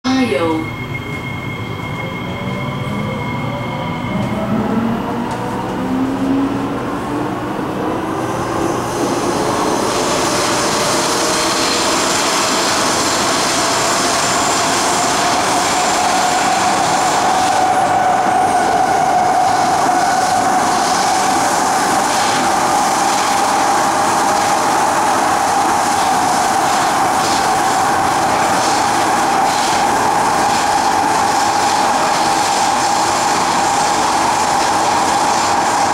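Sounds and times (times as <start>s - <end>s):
train wheel and running noise: 0.1s - 35.9s.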